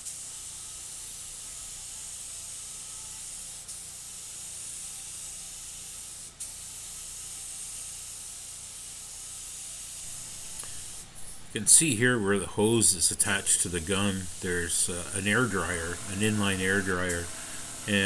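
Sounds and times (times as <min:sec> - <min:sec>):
paint spray gun hissing: 0:00.0 - 0:18.0.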